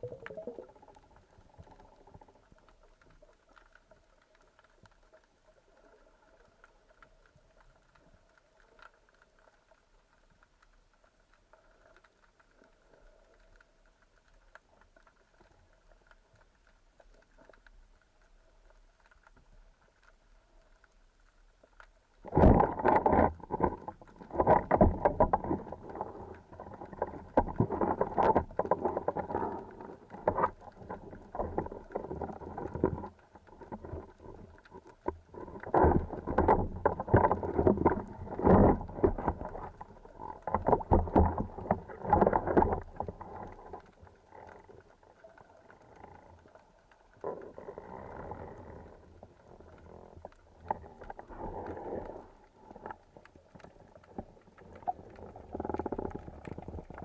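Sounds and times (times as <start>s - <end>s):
water sloshing and splashing: 0.0s - 18.0s, 21.5s - 57.0s.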